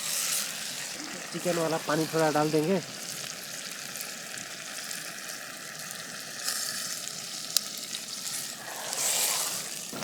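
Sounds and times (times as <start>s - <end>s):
curry sizzling in a pot: 0.0s - 10.0s.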